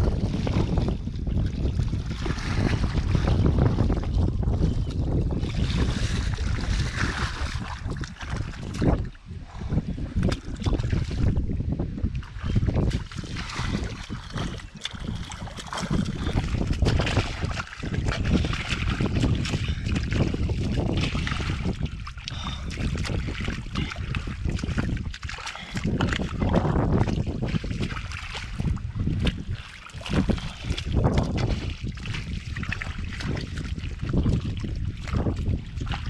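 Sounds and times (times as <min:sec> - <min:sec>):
squelching in thick mud: 0:00.0 - 0:36.0
water sloshing: 0:00.0 - 0:36.0
wind on microphone: 0:00.0 - 0:36.0.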